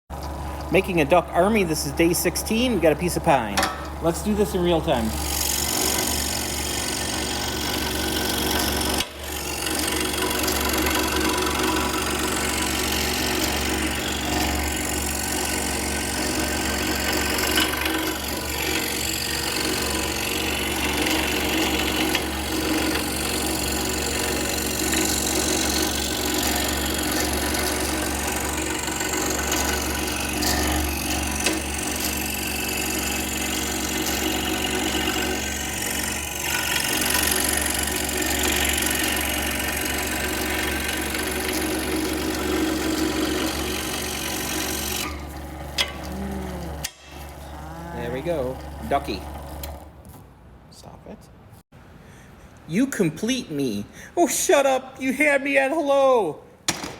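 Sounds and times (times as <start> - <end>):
scroll saw cutting wood: 0.7 - 49.9.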